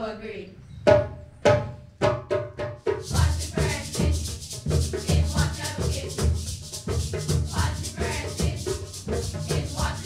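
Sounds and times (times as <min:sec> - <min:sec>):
hand drum beating: 0:00.9 - 0:10.0
sharp high drum beat: 0:01.0 - 0:10.0.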